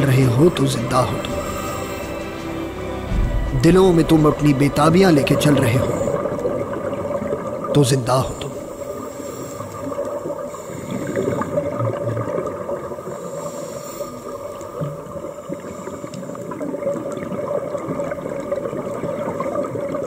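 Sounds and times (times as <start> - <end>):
underwater crackling and bubbling: 0.0 - 20.0.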